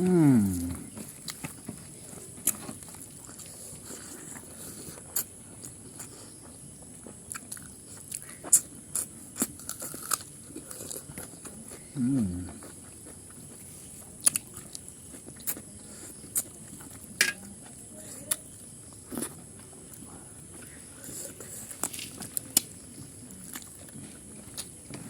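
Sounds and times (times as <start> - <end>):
chewing with wet mouth noises: 0.0 - 25.0.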